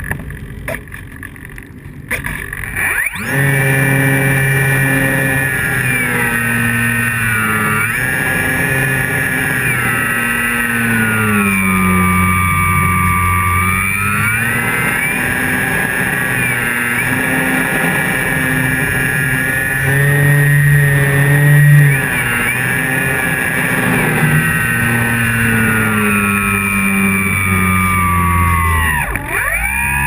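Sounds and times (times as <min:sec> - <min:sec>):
electric motor and propeller whine: 0:00.0 - 0:30.0.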